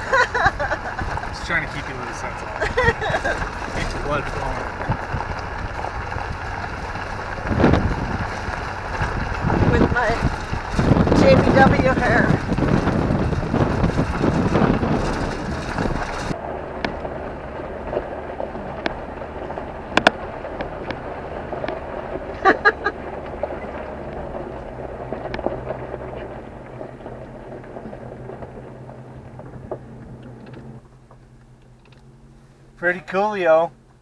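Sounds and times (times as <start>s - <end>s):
wind buffeting microphone: 0.0s - 30.8s
tyres rumbling on gravel: 0.0s - 34.0s
vehicle engine hum: 0.0s - 34.0s.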